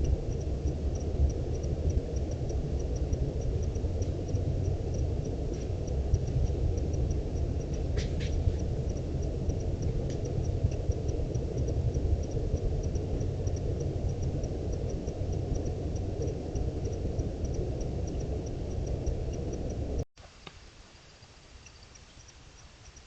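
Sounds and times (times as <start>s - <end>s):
rapid high-pitched chirps: 0.0s - 20.0s, 21.6s - 23.0s
steady low rumbling noise: 0.0s - 20.1s.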